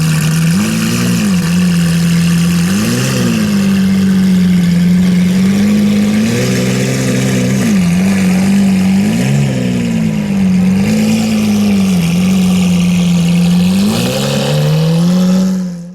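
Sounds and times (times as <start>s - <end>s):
car engine idling with throttle blips: 0.0s - 15.9s.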